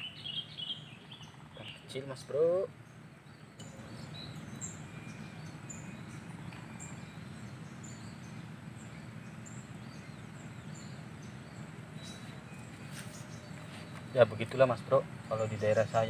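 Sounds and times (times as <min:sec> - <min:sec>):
small birds chirping: 0:00.0 - 0:16.0
steady background noise: 0:00.0 - 0:16.0.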